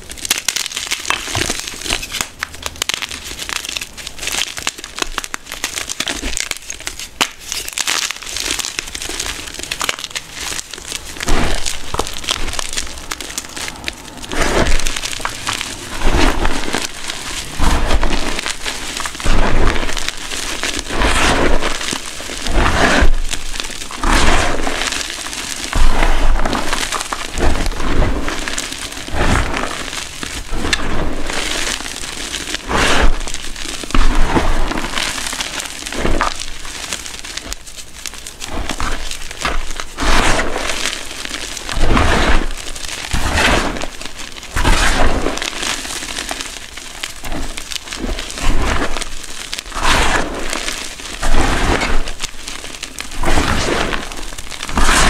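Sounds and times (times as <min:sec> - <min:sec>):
chalk crunching and crumbling: 0:00.0 - 0:55.0.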